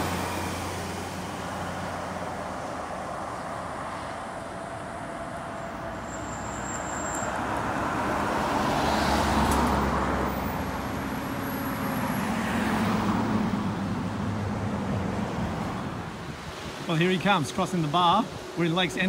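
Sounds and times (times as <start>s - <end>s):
vehicles driving by: 0.0s - 19.0s.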